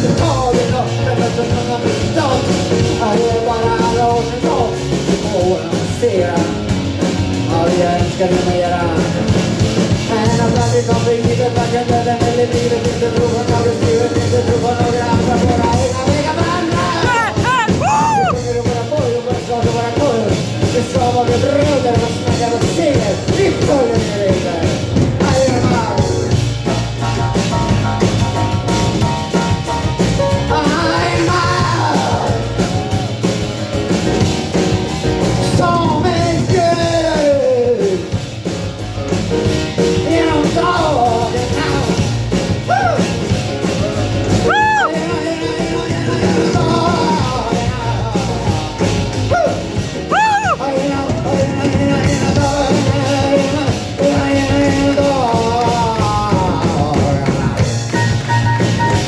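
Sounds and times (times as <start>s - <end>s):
person singing: 0.0s - 6.7s, 7.4s - 26.4s, 30.3s - 33.2s, 35.4s - 38.2s, 39.8s - 58.2s
grand piano: 0.0s - 59.0s.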